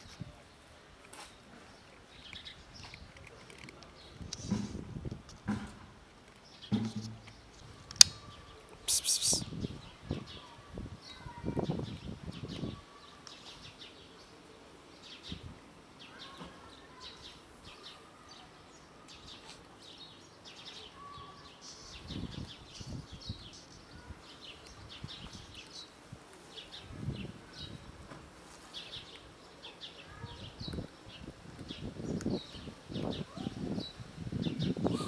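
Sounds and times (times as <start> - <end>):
small birds chirping: 1.2 - 4.7, 6.3 - 27.8, 28.6 - 35.0.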